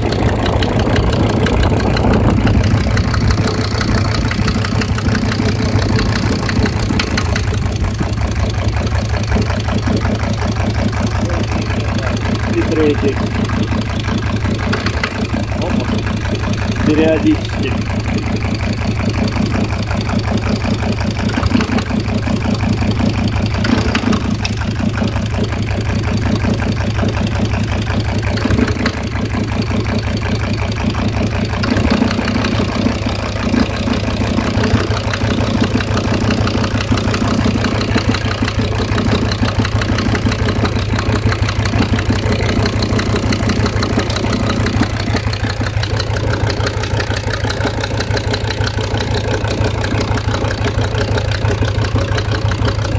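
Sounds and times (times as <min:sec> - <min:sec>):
car engine idling: 0:00.0 - 0:52.9
engine knocking: 0:00.0 - 0:52.9.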